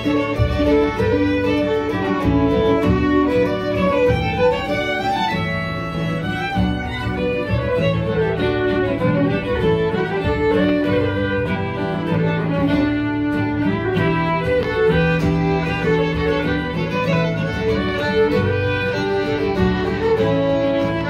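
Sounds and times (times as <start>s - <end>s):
fiddles playing a tune: 0.0s - 21.0s.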